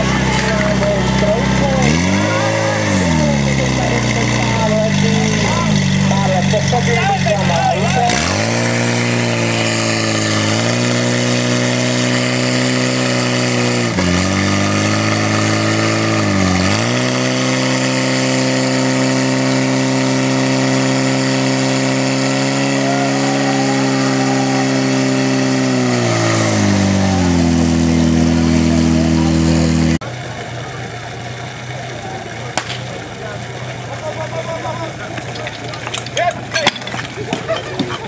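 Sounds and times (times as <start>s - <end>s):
pump engine running hard: 0.0s - 36.6s.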